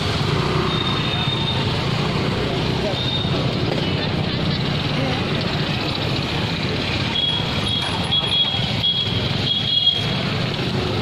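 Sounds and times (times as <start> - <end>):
traffic engines din: 0.0 - 11.0.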